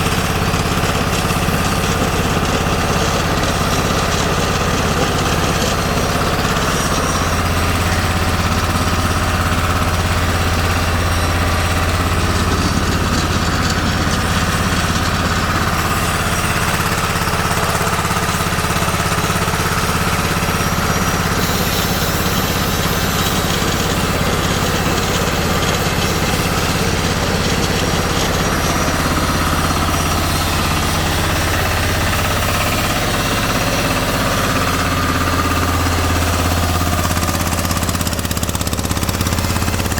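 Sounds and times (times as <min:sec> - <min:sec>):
pellet mill droning: 0:00.0 - 0:39.9.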